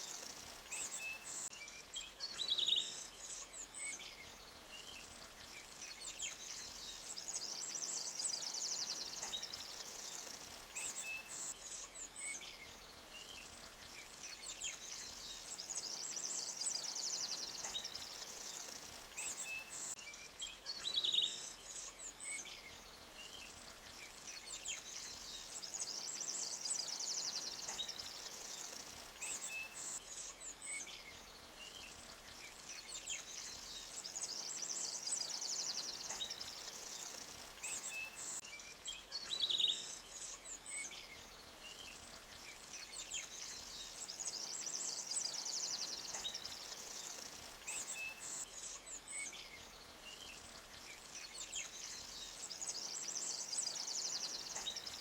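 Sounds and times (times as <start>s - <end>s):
flowing water hiss: 0.0s - 20.0s, 20.9s - 55.0s
small birds chirping and trilling: 0.0s - 55.0s.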